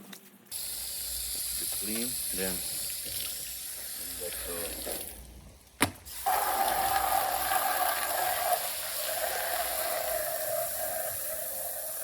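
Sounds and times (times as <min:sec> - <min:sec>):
water running from a tap: 0:00.5 - 0:05.4, 0:06.0 - 0:12.0.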